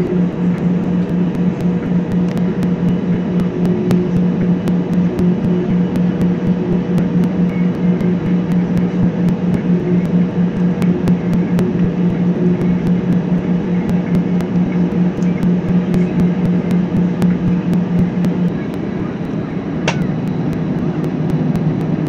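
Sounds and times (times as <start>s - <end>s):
jet engines droning hum: 0.0s - 22.0s.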